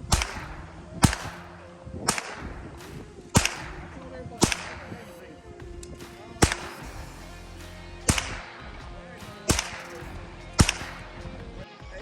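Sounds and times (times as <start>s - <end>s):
gunshots: 0.0s - 5.2s, 5.8s - 7.1s, 8.0s - 11.3s.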